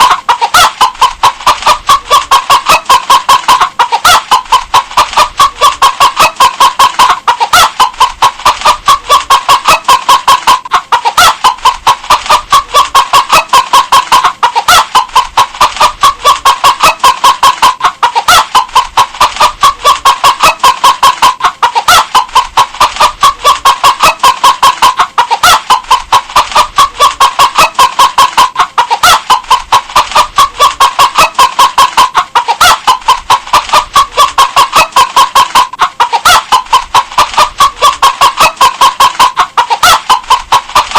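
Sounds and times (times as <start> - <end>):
hen clucking: 0.0 - 40.9.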